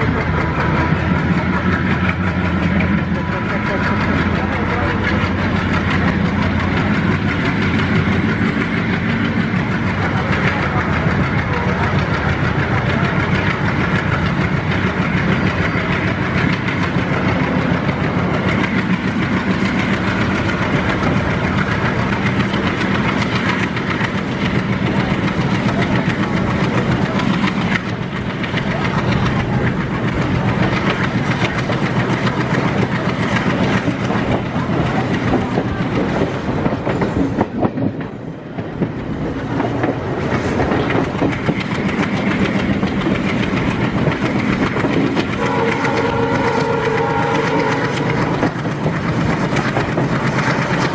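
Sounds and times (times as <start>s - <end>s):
diesel locomotive drone: 0.0s - 50.9s
train wheels on rails: 0.0s - 50.9s
wheels clicking over rail joints: 0.0s - 50.9s.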